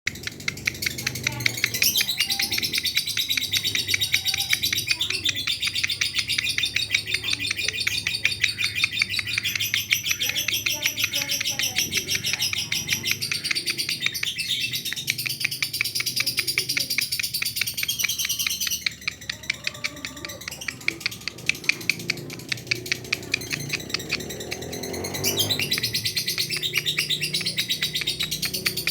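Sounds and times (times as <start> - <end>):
lovebird chattering: 0.1 - 28.9.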